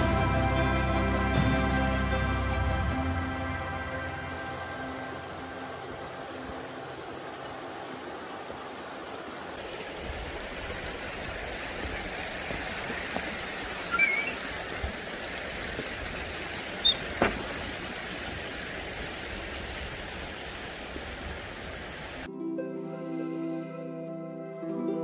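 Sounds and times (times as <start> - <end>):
river water over stones: 0.0 - 22.3.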